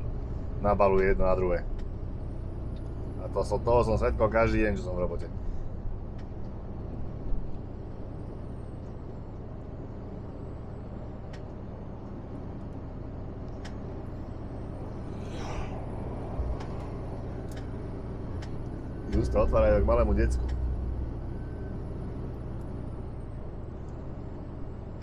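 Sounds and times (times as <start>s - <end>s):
truck engine hum: 0.0s - 25.0s
tyre and road noise: 0.0s - 25.0s.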